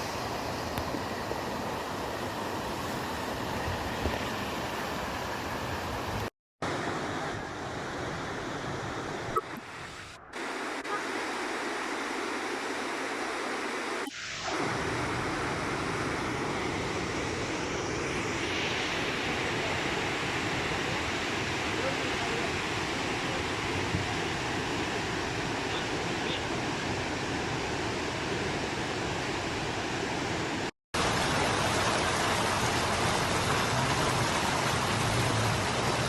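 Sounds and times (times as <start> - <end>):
water rushing: 0.0 - 36.0.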